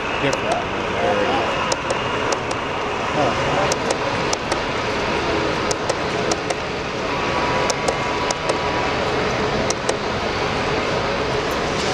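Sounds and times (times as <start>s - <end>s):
model train rolling on track: 0.0s - 11.9s
steady background noise: 0.0s - 11.9s.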